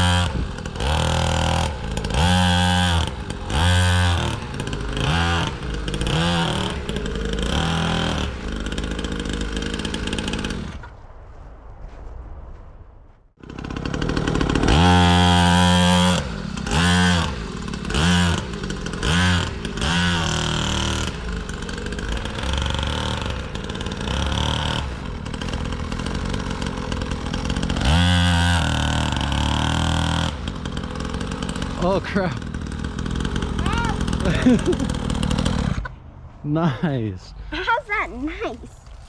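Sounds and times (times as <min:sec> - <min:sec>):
dirt bike engine revving: 0:00.0 - 0:10.9, 0:13.4 - 0:36.4.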